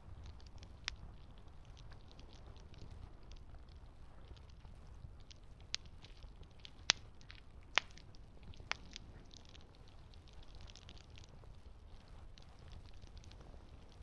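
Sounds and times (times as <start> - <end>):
campfire crackling: 0.0 - 14.0
logs popping: 0.0 - 14.0.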